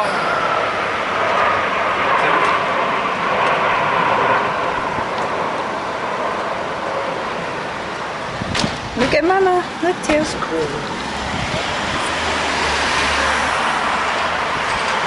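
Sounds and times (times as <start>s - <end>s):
jet aircraft engine roar: 0.0s - 15.0s.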